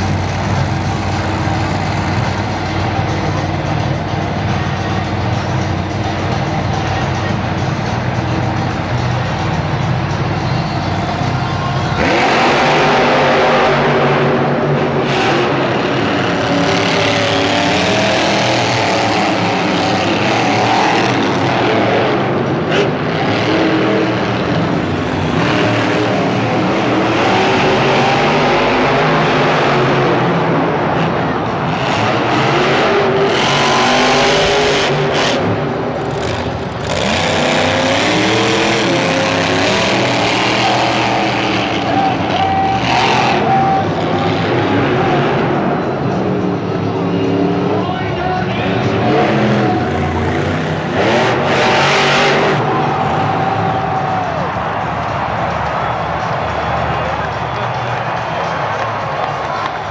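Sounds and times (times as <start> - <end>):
monster truck engines revving: 0.0 - 59.9.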